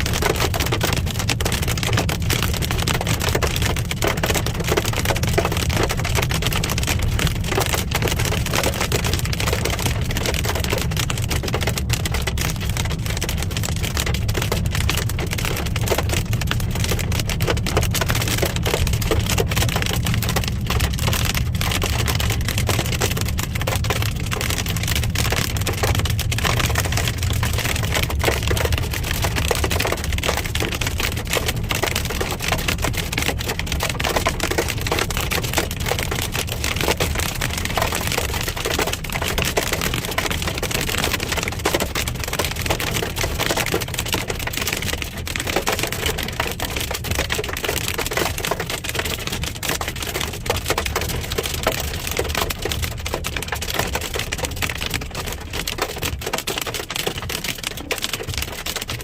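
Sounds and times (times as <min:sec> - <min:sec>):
car rumbling while moving: 0:00.0 - 0:59.0
hail hitting car roof: 0:00.0 - 0:59.0.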